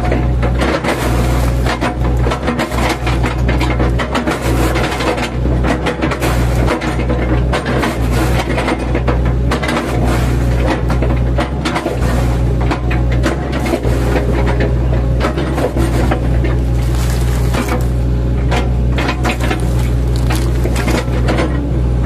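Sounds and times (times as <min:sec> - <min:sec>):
bucket crunching wood: 0:00.0 - 0:21.7
excavator engine running: 0:00.0 - 0:22.0.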